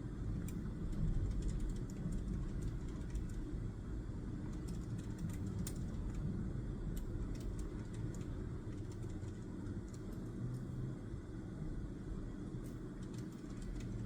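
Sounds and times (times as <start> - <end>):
low background rumble: 0.0 - 14.0
light ticks of desk work: 0.2 - 11.4, 12.2 - 14.0.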